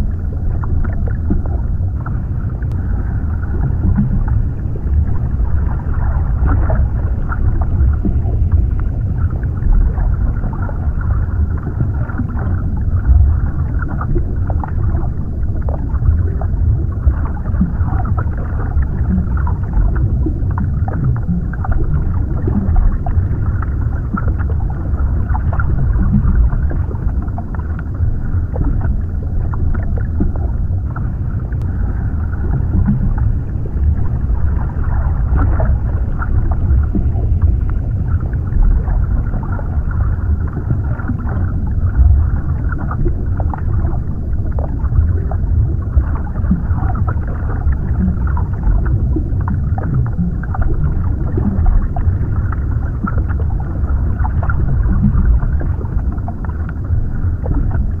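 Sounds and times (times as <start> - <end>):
faint underwater crackles: 0.0 - 58.0
underwater low rumble: 0.0 - 58.0.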